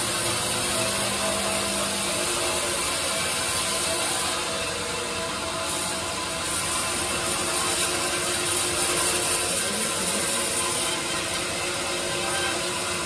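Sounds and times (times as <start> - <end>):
bandsaw sawing through log: 0.0 - 13.0.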